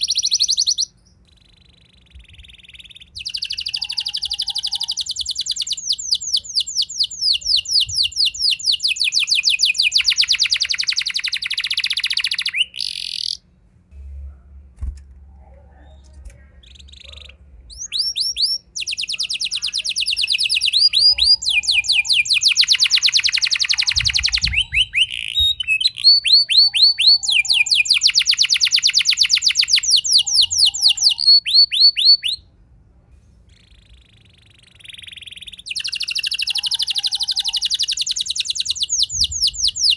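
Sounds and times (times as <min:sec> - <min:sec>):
canary singing trills: 0:00.0 - 0:13.5, 0:15.5 - 0:32.5, 0:33.5 - 0:39.9.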